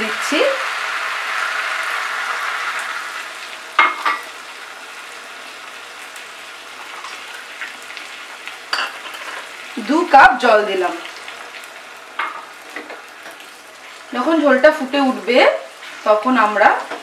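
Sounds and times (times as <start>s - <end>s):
curry sizzling: 0.0s - 17.0s.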